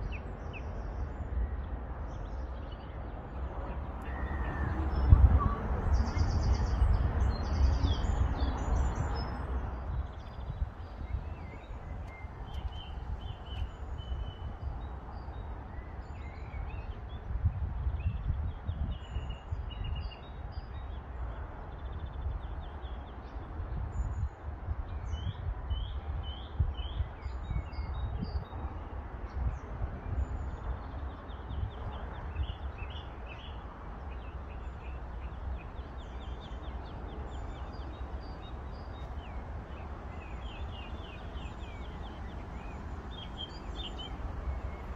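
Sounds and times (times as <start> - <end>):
small birds chirping and singing: 0.0 - 24.3, 29.4 - 44.9.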